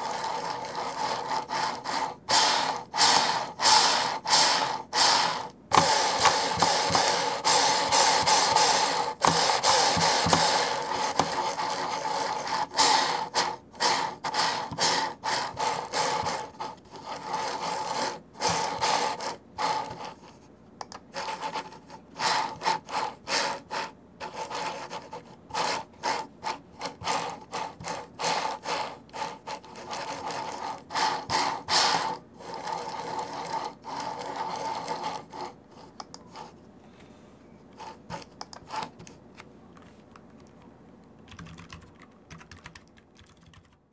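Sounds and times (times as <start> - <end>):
trackball ball spinning: 0.0 - 36.6.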